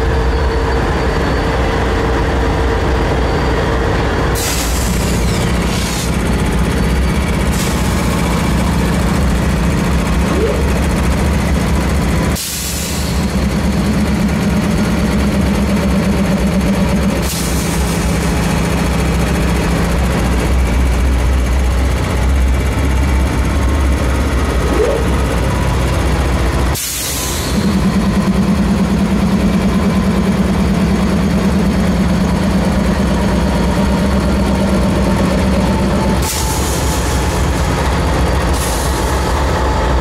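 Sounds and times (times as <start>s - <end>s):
diesel locomotive engines throbbing: 0.0s - 40.0s.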